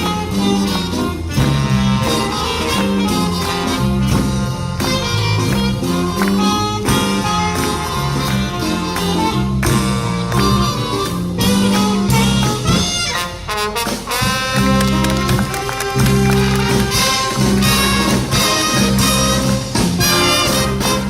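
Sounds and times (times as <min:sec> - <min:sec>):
big band jazz: 0:00.0 - 0:21.0
walking bass line: 0:00.0 - 0:21.0.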